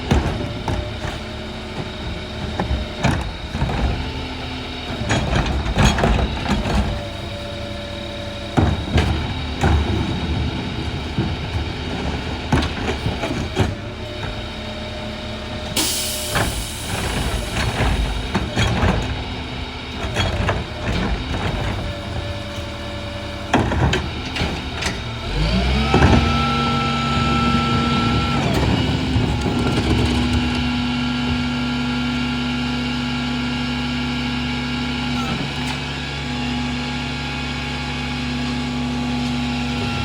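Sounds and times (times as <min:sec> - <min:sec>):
garbage truck engine running: 0:00.0 - 0:40.0.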